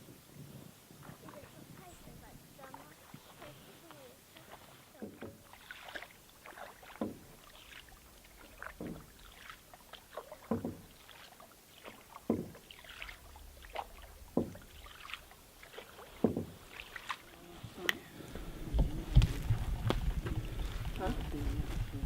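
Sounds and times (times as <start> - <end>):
paddle strokes in water: 0.0 - 22.0
water splashing and dripping: 1.0 - 22.0.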